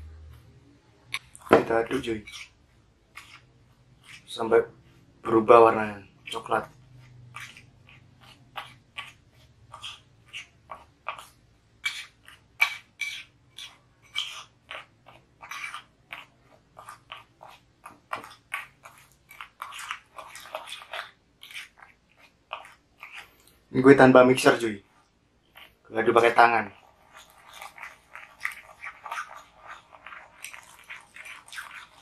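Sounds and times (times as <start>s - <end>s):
spoon scraping ceramic bowl: 1.1s - 23.5s, 24.4s - 32.0s.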